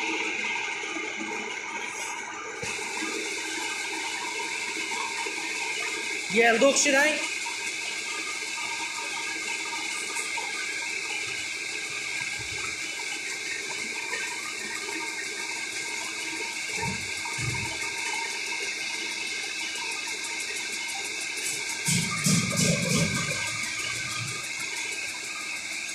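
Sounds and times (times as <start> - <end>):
metal lathe whining hiss: 1.8 - 25.9.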